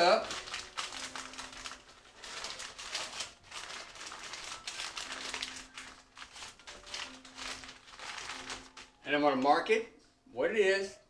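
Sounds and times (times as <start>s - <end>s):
wrapping crinkling and rustling: 0.0s - 9.8s.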